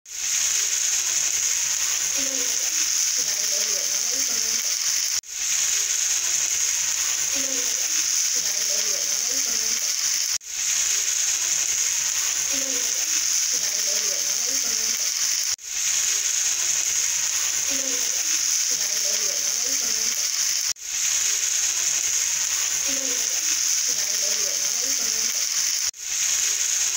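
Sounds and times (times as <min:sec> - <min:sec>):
steady high hiss: 0:00.1 - 0:26.9.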